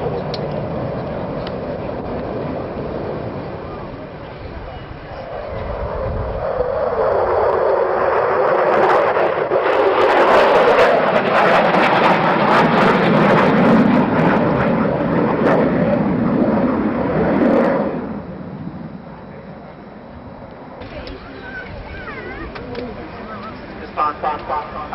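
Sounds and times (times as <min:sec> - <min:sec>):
jet aircraft roaring past: 0:00.0 - 0:24.9.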